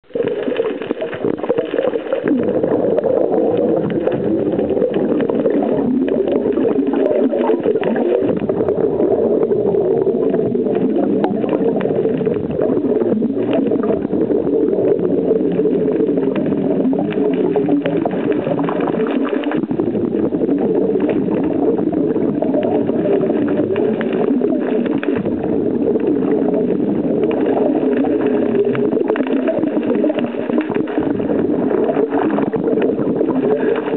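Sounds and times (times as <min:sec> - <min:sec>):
fine crackling clicks: 0:00.0 - 0:33.9
muffled underwater water noise: 0:00.0 - 0:33.9.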